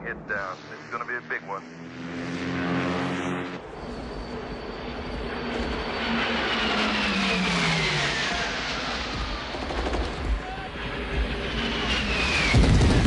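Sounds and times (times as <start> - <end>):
jet fighters flying past: 0.0 - 13.0
propeller plane engine drone: 0.0 - 13.0.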